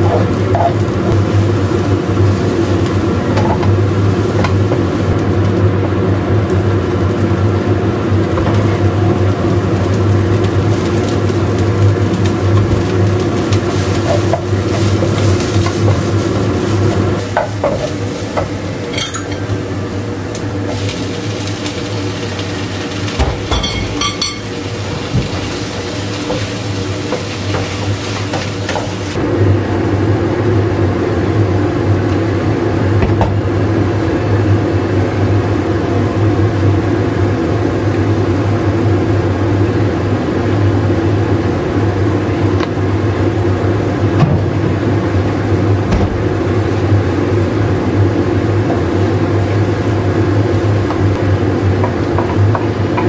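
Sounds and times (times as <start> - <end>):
vegetables sizzling in a wok: 0.0 - 30.0, 30.6 - 53.0.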